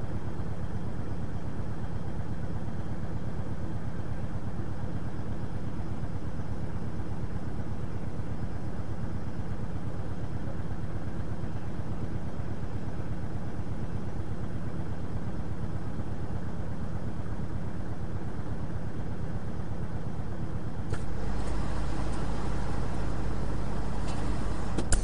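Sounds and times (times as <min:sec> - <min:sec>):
vehicle engine idling: 0:00.1 - 0:25.0.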